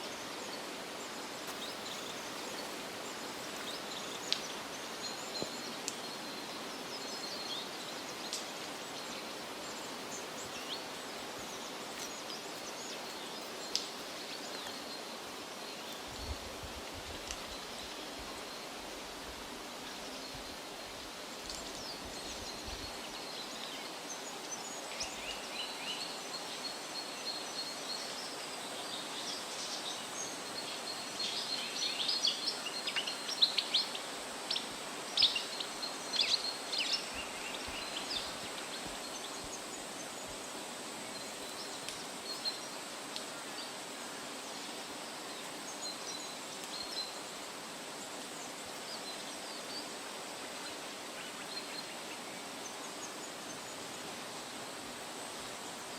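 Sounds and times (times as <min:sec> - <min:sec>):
songbirds chirping: 0:00.0 - 0:55.9
steady outdoor hiss: 0:00.0 - 0:55.9.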